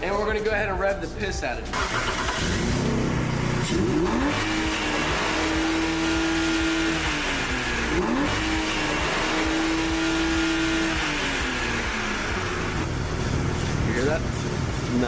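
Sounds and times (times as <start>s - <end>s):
car engine revving hard: 1.8s - 14.8s.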